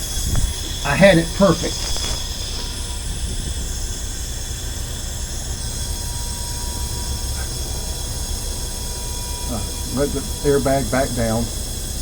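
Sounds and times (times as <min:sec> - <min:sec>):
compressed air hissing: 0:00.0 - 0:12.0
low engine rumble: 0:00.0 - 0:12.0.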